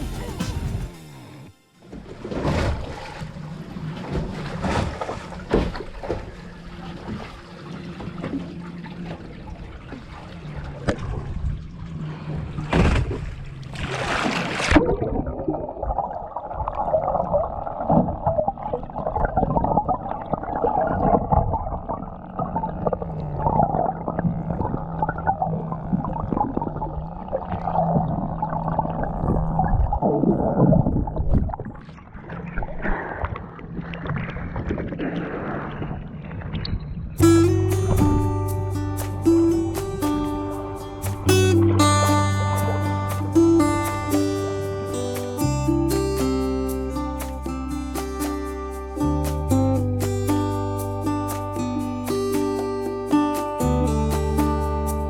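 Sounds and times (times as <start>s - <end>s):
water rushing and gurgling: 1.9s - 54.9s.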